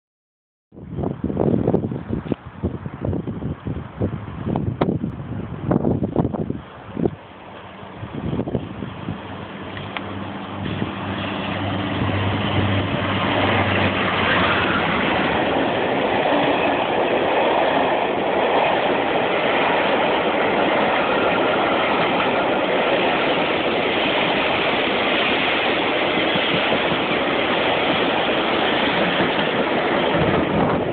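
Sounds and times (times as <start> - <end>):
train wheels on rails: 3.6 - 30.9
locomotive engine drone: 5.2 - 30.9.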